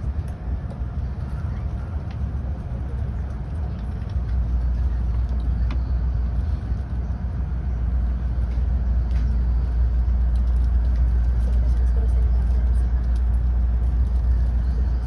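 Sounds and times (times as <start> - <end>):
train rumble inside passenger car: 0.0 - 15.0.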